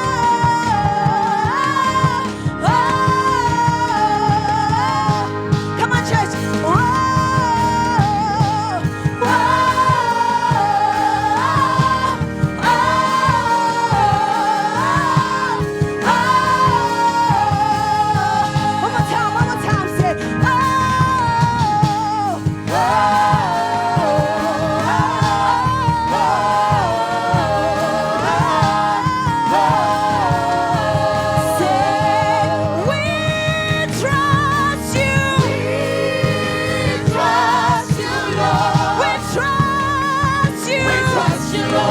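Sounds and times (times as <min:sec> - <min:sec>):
band accompaniment with beat: 0:00.0 - 0:41.9
gospel singers: 0:00.0 - 0:41.9.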